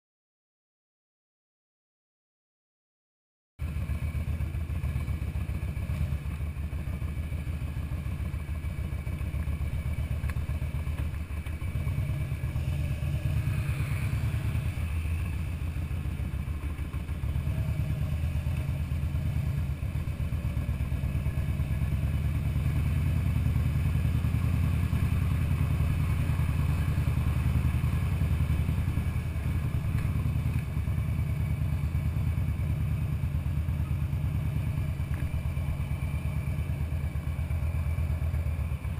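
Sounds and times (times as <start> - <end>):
motorcycle engine running: 3.6 - 38.9.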